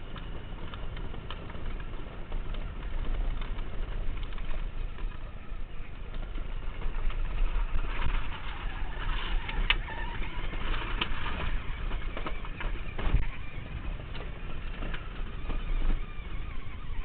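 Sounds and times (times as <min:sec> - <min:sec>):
quad bike engine rumble: 0:00.0 - 0:17.0.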